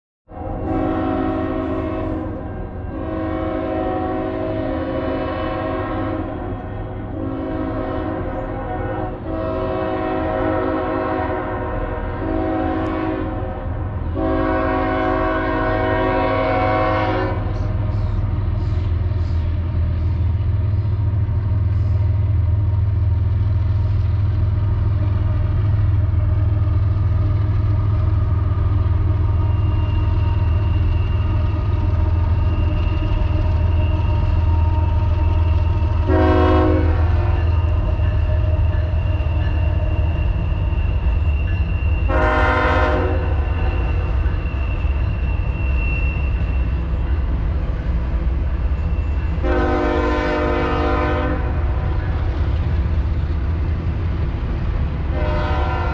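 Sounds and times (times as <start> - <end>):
train horn blasts: 0.3 - 19.2, 24.8 - 47.6, 48.8 - 52.6, 55.1 - 55.9
train rumble: 0.3 - 55.9.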